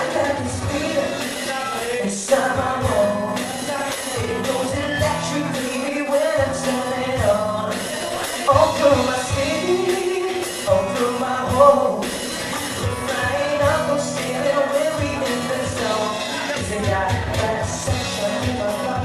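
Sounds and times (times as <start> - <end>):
drum kit steady beat: 0.0 - 19.0
guitar: 0.0 - 19.0
person singing: 0.0 - 19.0.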